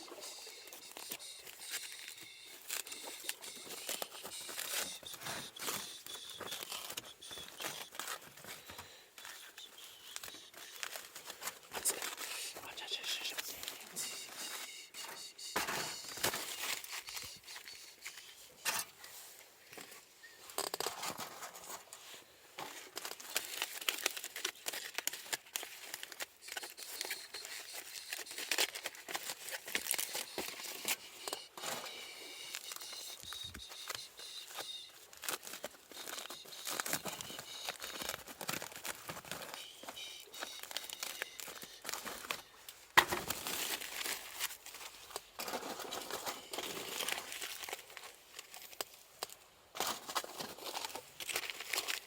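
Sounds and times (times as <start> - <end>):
wrapping crinkling: 0.0 - 14.8, 15.9 - 52.0.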